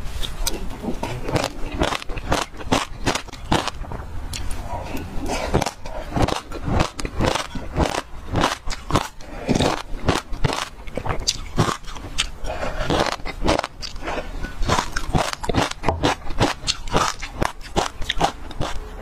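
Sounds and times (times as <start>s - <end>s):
crunchy chewing of seeds: 0.0s - 19.0s.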